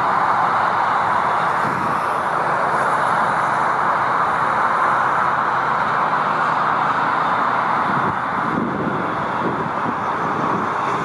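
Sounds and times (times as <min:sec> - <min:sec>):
jet airliner engines roaring: 0:00.0 - 0:11.0.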